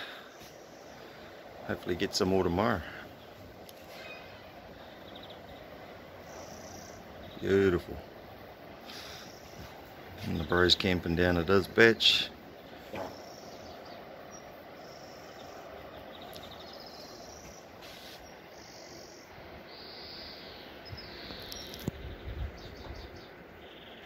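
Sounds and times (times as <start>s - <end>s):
birds chirping and trilling: 0.0s - 24.0s
steady low hiss: 0.0s - 24.0s.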